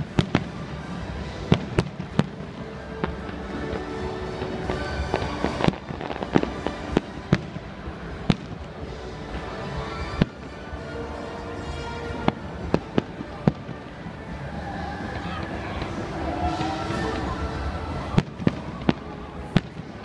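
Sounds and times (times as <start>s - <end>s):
fairground noise: 0.0s - 20.0s
music: 0.0s - 20.0s.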